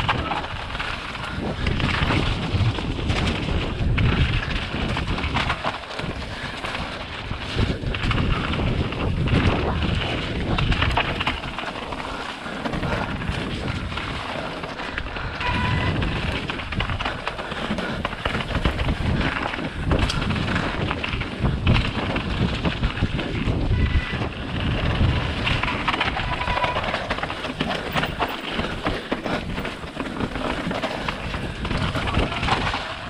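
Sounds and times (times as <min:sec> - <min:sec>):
mountain bike rumble and rattle: 0:00.0 - 0:33.0
wind buffeting microphone: 0:00.0 - 0:33.0.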